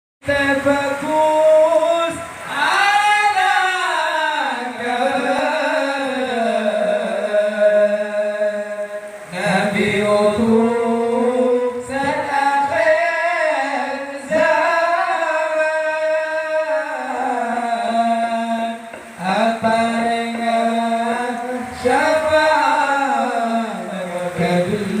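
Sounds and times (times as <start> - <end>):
man chanting devotional song: 0.2 - 25.0.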